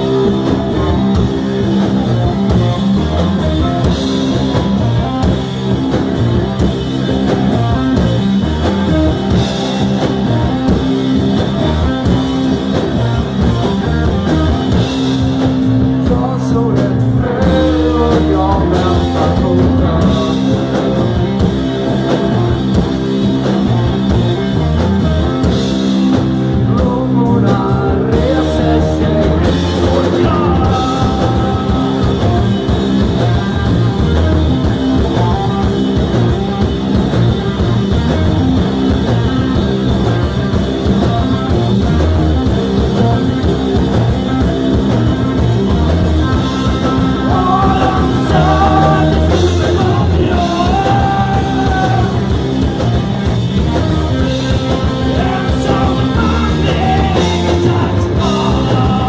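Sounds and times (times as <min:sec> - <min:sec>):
drums: 0:00.0 - 0:59.0
electric guitars: 0:00.0 - 0:59.0
rock vocals: 0:00.0 - 0:59.0.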